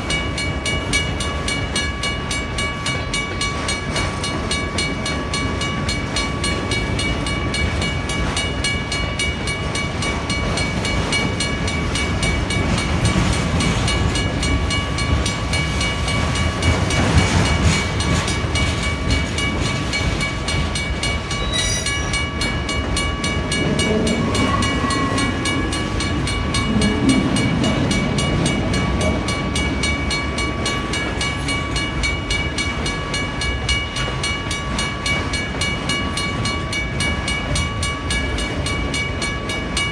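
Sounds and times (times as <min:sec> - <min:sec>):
crossing bell ringing: 0:00.0 - 0:39.9
freight train rumbling: 0:00.0 - 0:39.9.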